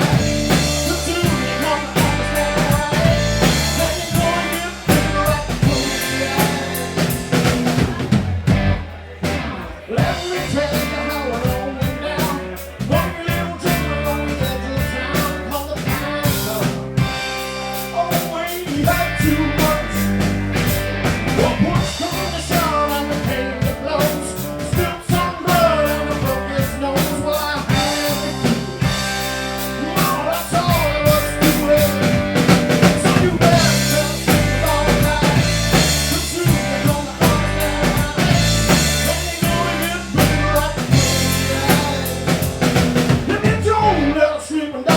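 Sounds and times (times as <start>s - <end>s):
drum kit beat: 0.0s - 44.2s
live blues band playing: 0.0s - 44.9s.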